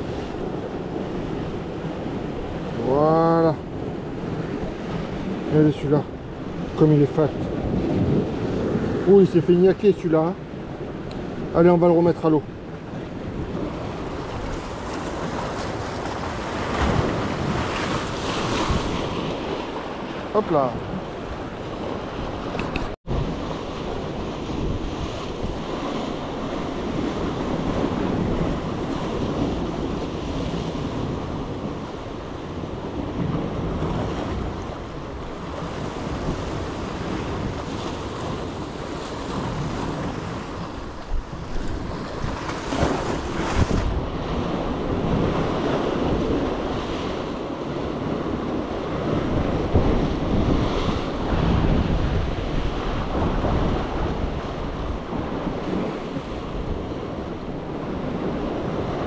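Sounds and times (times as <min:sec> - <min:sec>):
waves washing against rocky shore: 0:00.0 - 0:59.0
wind noise on microphone: 0:00.0 - 0:59.0.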